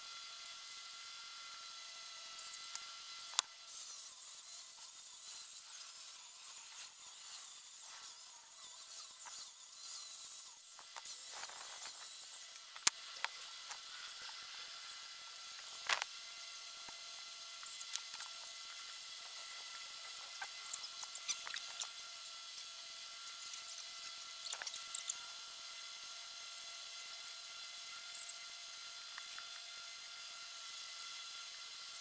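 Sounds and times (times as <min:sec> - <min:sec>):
angle grinder grinding rubber: 0:00.0 - 0:32.0.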